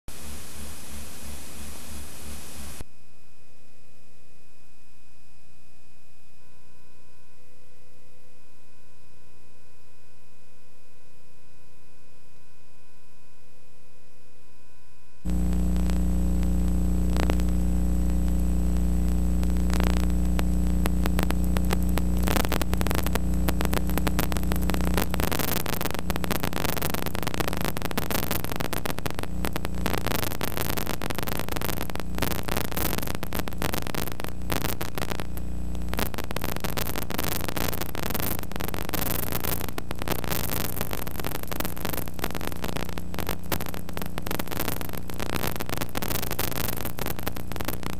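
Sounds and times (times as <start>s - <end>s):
crackling static hiss: 0.0s - 13.3s, 14.0s - 47.9s
electrical hum: 0.1s - 47.9s.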